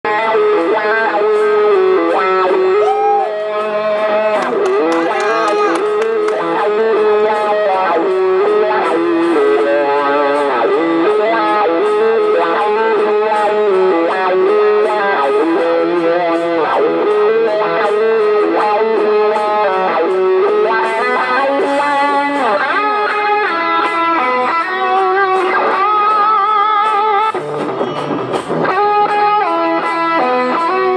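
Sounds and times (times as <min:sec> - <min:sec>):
electric guitar lead melody: 0:00.1 - 0:30.9.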